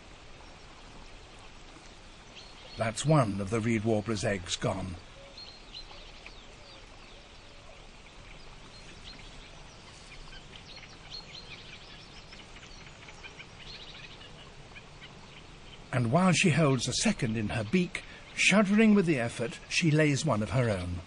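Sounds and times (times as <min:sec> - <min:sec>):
low steady hiss: 0:00.0 - 0:21.0
songbirds chirping and trilling: 0:00.0 - 0:21.0.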